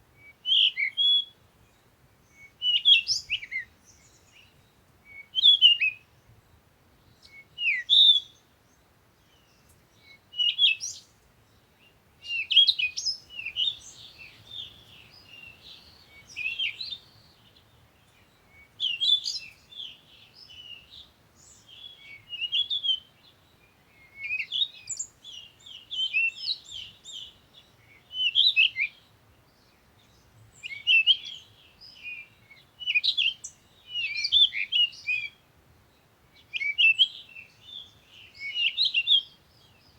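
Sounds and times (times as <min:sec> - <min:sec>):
songbirds twittering: 0:00.2 - 0:39.9.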